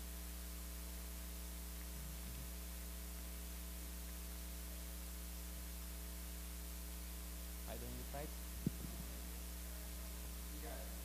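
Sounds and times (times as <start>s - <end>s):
constant hiss: 0.0s - 11.0s
electrical mains hum: 0.0s - 11.0s.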